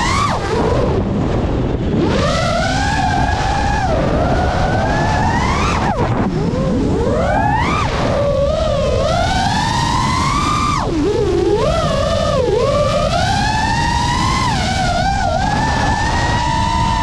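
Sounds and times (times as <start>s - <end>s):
drone motors whining: 0.0s - 17.0s
wind rush on microphone: 0.0s - 17.0s.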